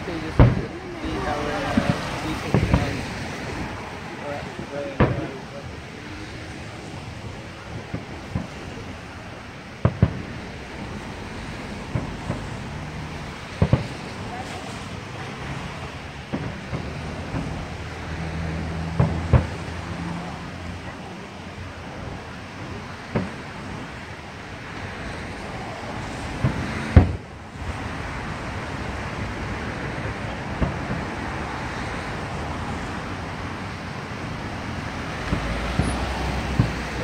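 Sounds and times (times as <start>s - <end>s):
firework bursts booming: 0.0s - 37.0s
road traffic hum: 0.0s - 37.0s.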